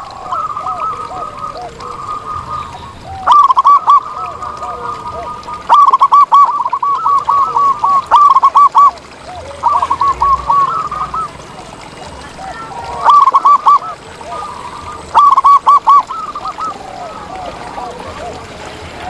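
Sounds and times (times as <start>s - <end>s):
dove giving rapid coo notes: 0.0s - 19.0s
second dove cooing quietly: 0.0s - 19.0s.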